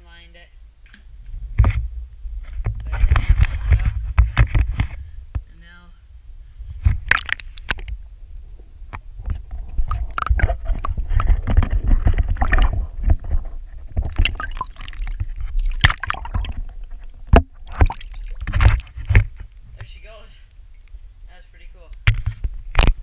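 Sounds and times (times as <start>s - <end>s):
muffled underwater water movement: 1.0s - 21.3s.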